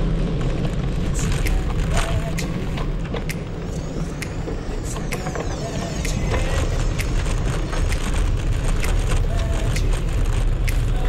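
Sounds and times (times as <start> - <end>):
wind and tyre rumble: 0.0 - 11.0.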